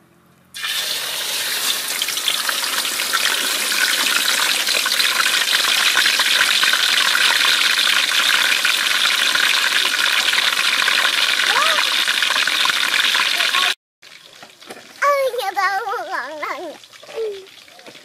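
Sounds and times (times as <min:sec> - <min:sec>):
fish sizzling in hot oil: 0:00.6 - 0:15.0, 0:16.2 - 0:18.0.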